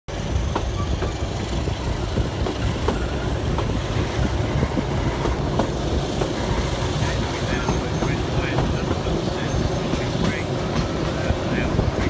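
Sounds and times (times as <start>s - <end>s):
train rumble: 0.1s - 12.0s
wheels clicking over rail joints: 0.3s - 12.0s.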